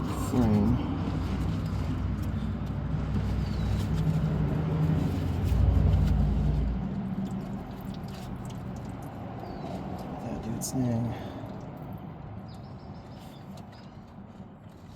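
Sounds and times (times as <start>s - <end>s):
vehicle engine rumble: 0.0s - 14.9s.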